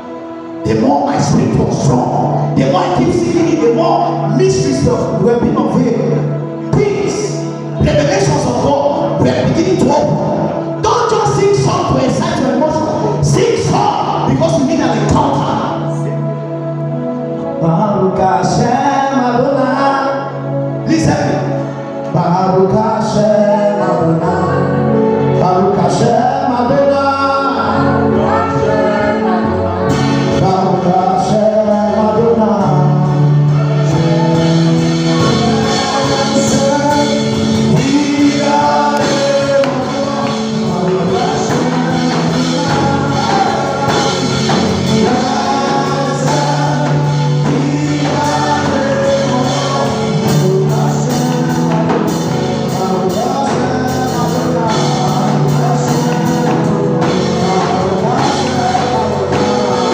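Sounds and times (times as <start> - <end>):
choir singing gospel music: 0.0 - 59.9
instrumental accompaniment: 0.0 - 59.9.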